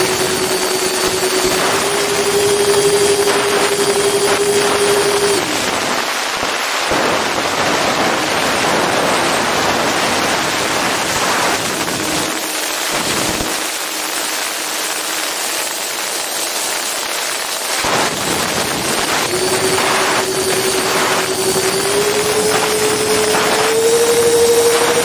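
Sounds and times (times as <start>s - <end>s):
ducted fan whine: 0.0s - 6.3s, 7.0s - 25.0s.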